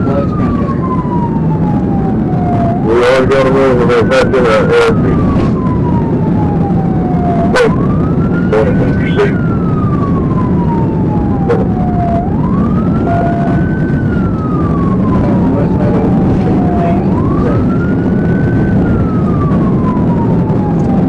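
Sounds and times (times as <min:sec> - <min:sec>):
police siren wailing: 0:00.0 - 0:21.0.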